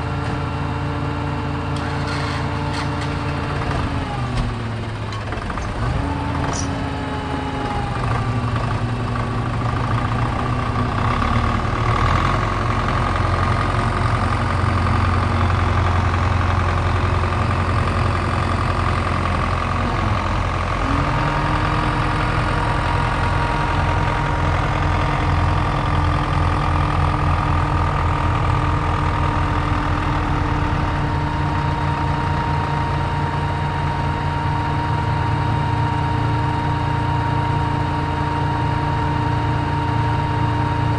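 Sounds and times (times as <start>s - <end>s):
heavy vehicle engine running: 0.0s - 40.9s.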